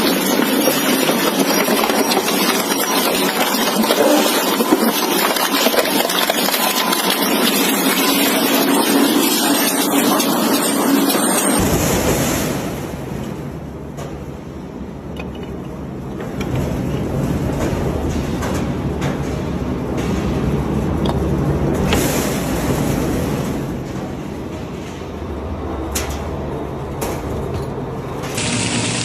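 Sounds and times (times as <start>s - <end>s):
crusher machine rumbling: 0.0s - 29.0s.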